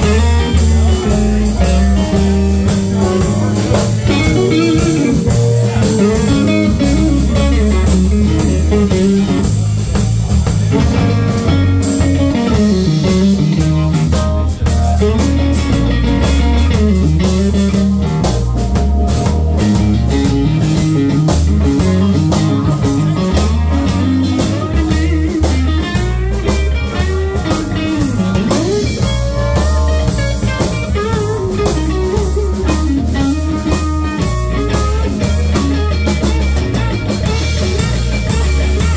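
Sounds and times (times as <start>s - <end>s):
drum kit: 0.0s - 38.9s
electric guitar lead line: 0.0s - 38.9s
low bass part: 0.0s - 38.9s.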